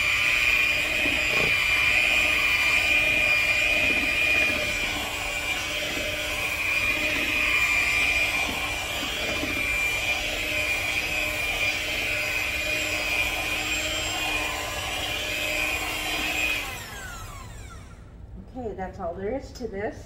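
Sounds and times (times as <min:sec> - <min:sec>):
electric hand mixer running: 0:00.0 - 0:18.1.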